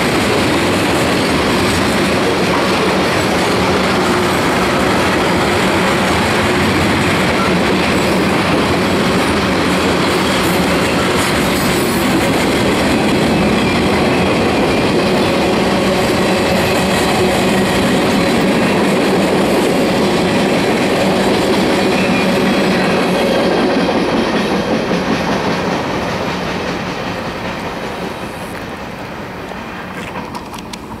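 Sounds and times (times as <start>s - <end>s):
freight train rolling past: 0.0s - 31.0s.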